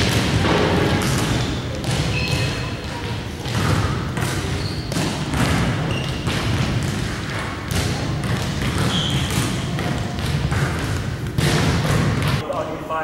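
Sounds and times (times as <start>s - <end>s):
sneaker squeaks: 0.0s - 12.4s
volleyball bouncing on gym floor: 0.0s - 12.5s.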